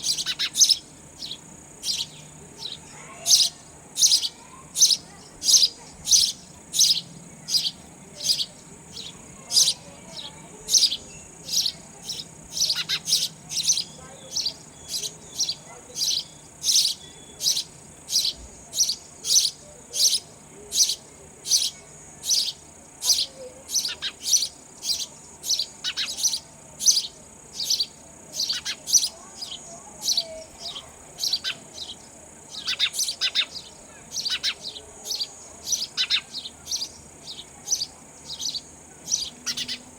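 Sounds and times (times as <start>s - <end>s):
faint high-pitched hum: 0.0s - 39.9s
sparrow chirping: 0.0s - 39.9s.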